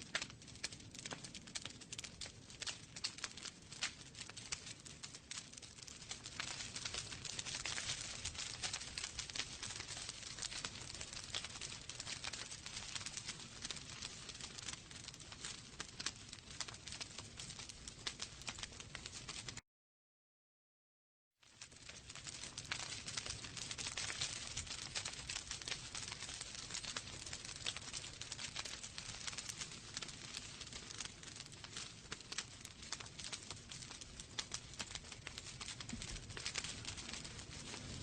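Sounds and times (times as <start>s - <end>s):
wood fire crackling and popping: 0.0s - 19.6s, 21.4s - 38.0s.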